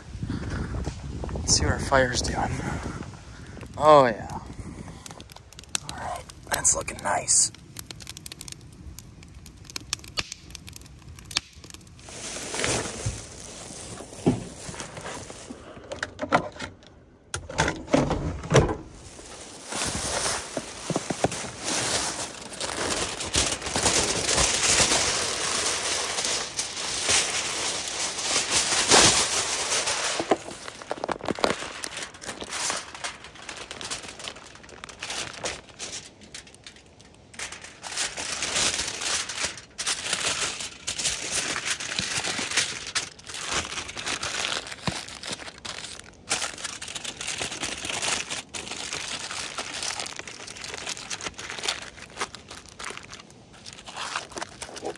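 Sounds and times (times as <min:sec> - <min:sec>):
aluminium foil crinkling: 0:03.4 - 0:16.6, 0:18.9 - 0:54.9.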